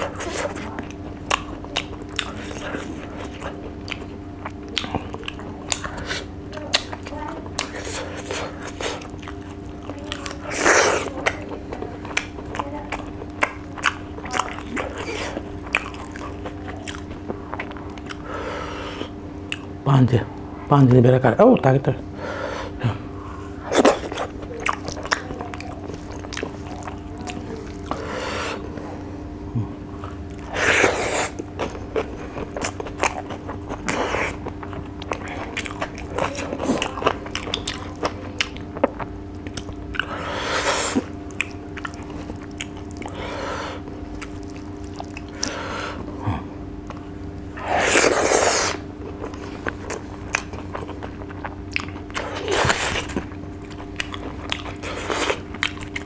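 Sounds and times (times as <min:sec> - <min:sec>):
man chewing and biting food: 0:00.0 - 0:19.8, 0:22.5 - 0:56.0
steady low hum: 0:00.0 - 0:56.0.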